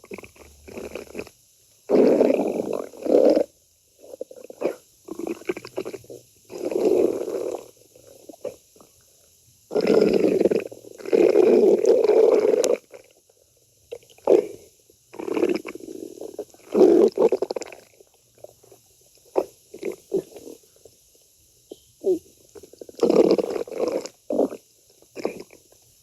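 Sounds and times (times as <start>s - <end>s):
stomach growling and gurgling: 0.0s - 9.0s, 9.7s - 21.0s, 22.0s - 26.0s.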